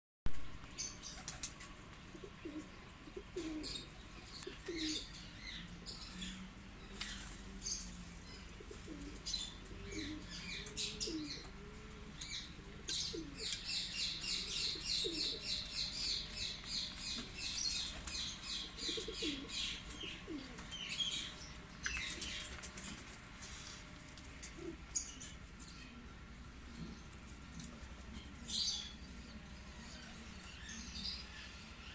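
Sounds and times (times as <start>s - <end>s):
birds chirping: 0.6s - 31.9s
pigeons cooing: 0.8s - 31.9s.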